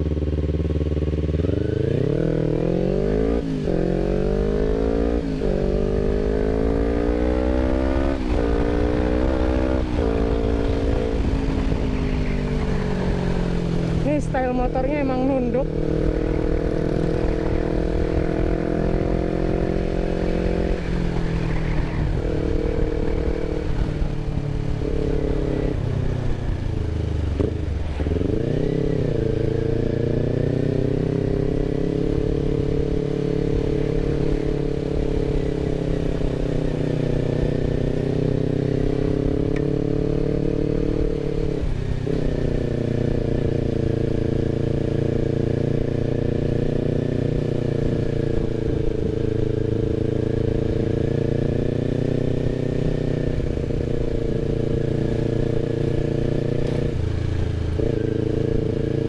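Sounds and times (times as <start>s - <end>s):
motorcycle engine at low revs: 0.0s - 59.0s.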